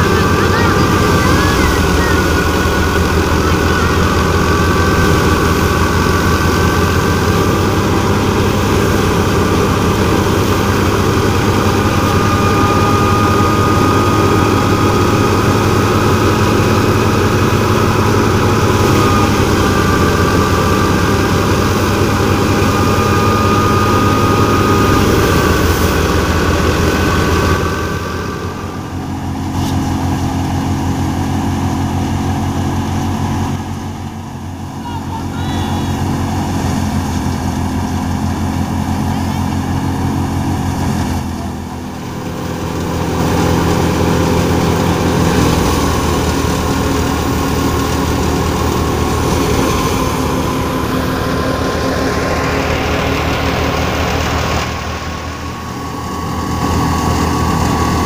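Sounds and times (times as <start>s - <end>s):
high mechanical whine: 0.0s - 58.0s
thresher and tractor mechanical din: 0.0s - 58.0s.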